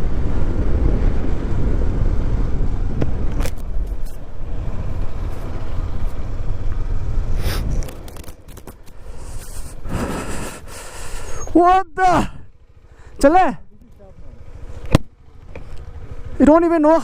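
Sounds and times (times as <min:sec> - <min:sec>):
wind and engine rumble: 0:00.0 - 0:17.0.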